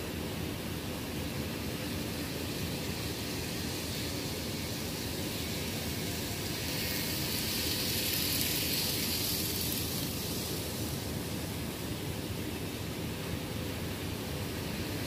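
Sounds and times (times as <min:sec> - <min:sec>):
model train running on track: 0:00.0 - 0:15.0
steady hiss: 0:00.0 - 0:15.0.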